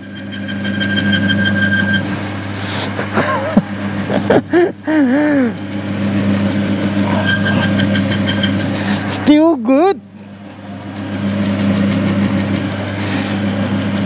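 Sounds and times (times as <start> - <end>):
electric motor hum: 0.0 - 9.4, 10.0 - 14.0
high machine whine: 0.0 - 14.0.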